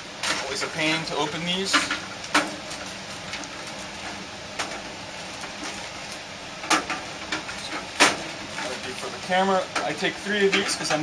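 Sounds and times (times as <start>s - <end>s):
cabinet airflow rushing: 0.0s - 11.0s.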